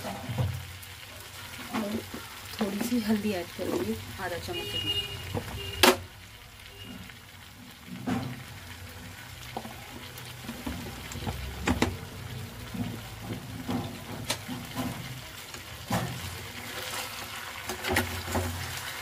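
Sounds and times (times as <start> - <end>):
potatoes sizzling in oil: 0.0 - 19.0.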